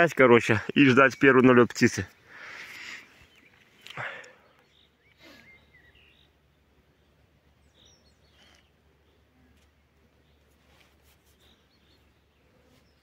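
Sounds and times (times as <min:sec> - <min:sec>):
songbird chirps and calls: 0:00.1 - 0:13.0.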